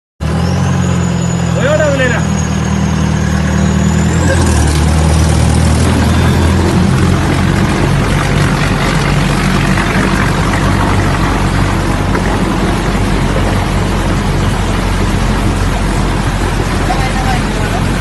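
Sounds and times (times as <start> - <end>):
engine running steadily: 0.2 - 18.0
loud rushing noise: 0.9 - 18.0.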